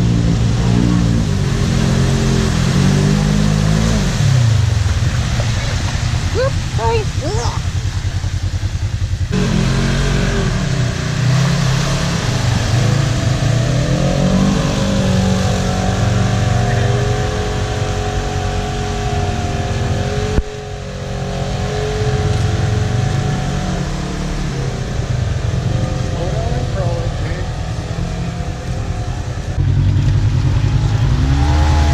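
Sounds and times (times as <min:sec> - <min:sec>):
vehicle engine revving hard: 0:00.0 - 0:07.6, 0:09.2 - 0:31.9.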